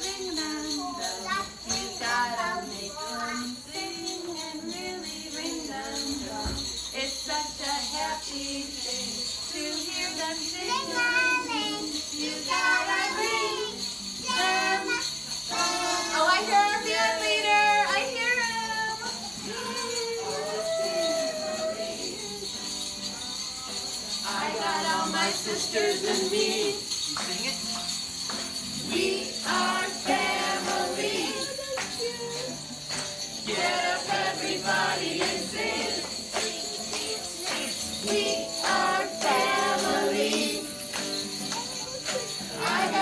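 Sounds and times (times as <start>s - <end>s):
jingle bells shaking: 0.0s - 43.0s
voices singing: 0.0s - 43.0s.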